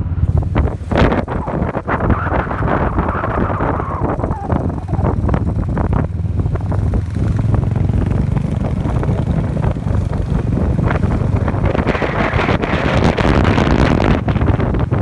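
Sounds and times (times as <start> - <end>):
vehicle rumble on road: 0.0 - 15.0
wind buffeting microphone: 0.0 - 15.0.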